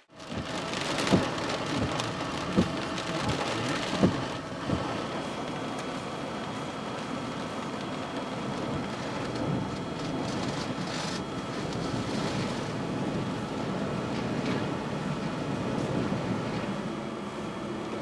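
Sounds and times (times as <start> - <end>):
heavy rain: 0.0 - 16.7
vehicle running with road noise: 0.0 - 18.0.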